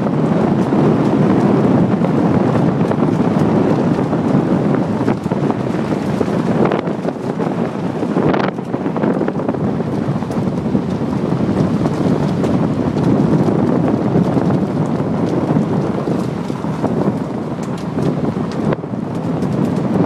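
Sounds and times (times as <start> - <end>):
tyres rumbling on dirt: 0.0 - 20.0
wind buffeting microphone: 0.0 - 20.0.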